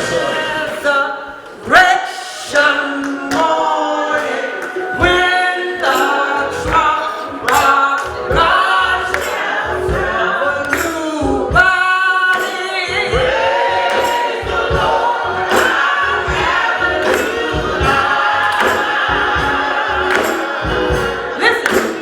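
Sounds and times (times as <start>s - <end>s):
gospel choir singing: 0.0s - 22.0s
rhythmic beat or clapping: 1.6s - 22.0s.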